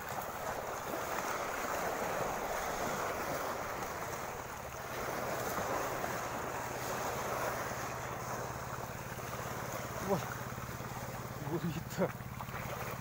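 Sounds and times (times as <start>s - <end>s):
boat motor humming: 0.0s - 13.0s
water rushing: 0.0s - 13.0s.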